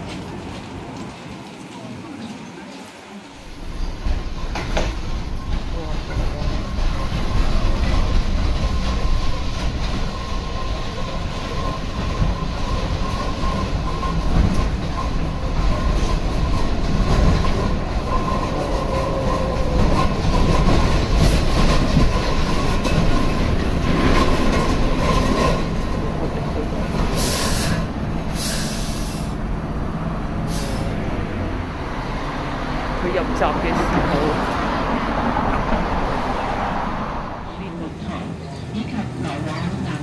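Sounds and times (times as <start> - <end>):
high-pitched tram whine: 0.0 - 40.0
tram wheels rumbling on rails: 0.0 - 40.0.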